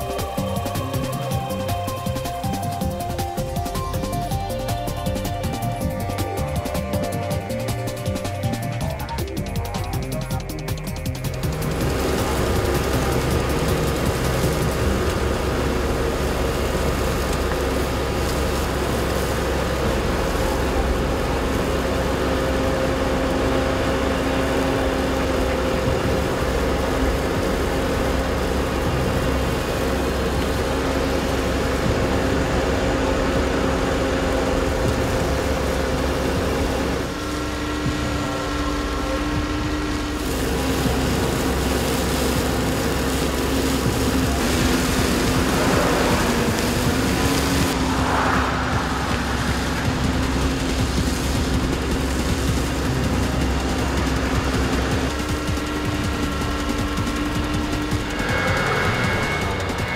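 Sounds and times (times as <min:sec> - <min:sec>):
tractor flail mower droning: 0:00.0 - 0:59.9.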